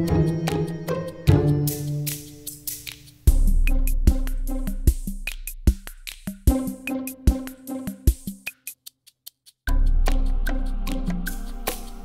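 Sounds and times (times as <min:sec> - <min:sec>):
electronic beat with deep bass: 0:00.0 - 0:12.0.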